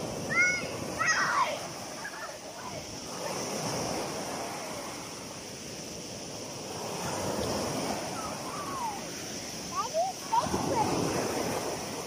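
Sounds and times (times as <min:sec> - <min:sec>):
small surf breaking: 0:00.0 - 0:12.0.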